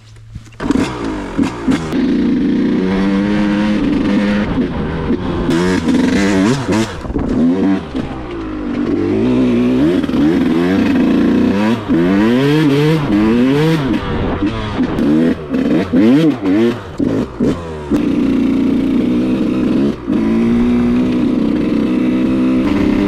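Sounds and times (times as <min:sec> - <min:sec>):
two-stroke engine revving: 0:00.6 - 0:23.0.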